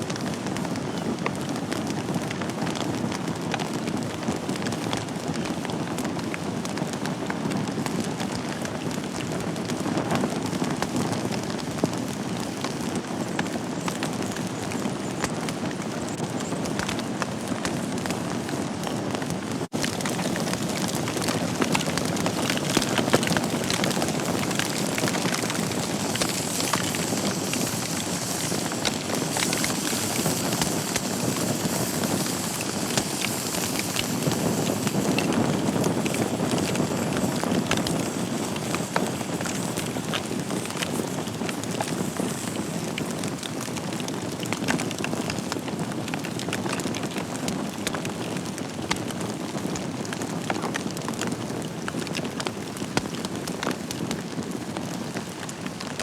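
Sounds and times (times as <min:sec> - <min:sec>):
crackles and pops of burning logs: 0:00.0 - 0:56.0
wood fire flames rushing: 0:00.1 - 0:56.0.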